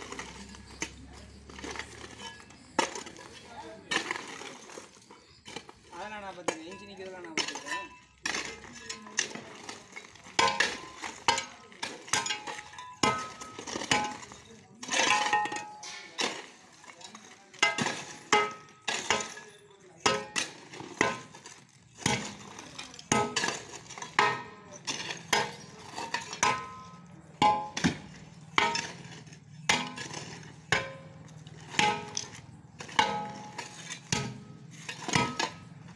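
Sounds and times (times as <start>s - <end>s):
metal tools striking stone rubble: 0.0s - 35.9s.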